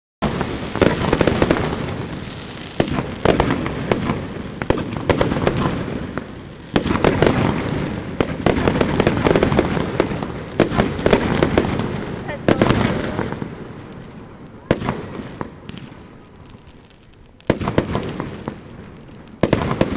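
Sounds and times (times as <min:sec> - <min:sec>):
fireworks bangs and crackles: 0:00.2 - 0:19.9.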